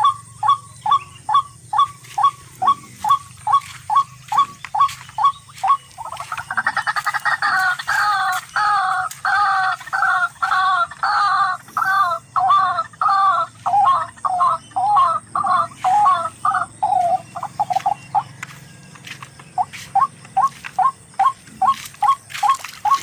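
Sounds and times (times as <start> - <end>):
rail bird calling: 0.0 - 23.0.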